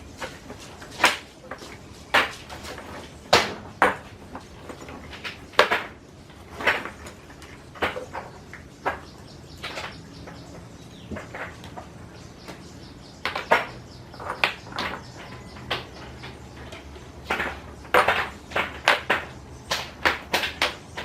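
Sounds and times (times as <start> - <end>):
short irregular knocks: 0.0 - 21.0.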